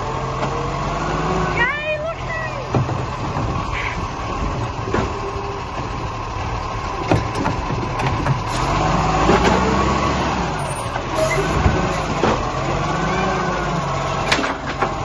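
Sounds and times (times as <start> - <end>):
garbage truck diesel engine: 0.0 - 15.0.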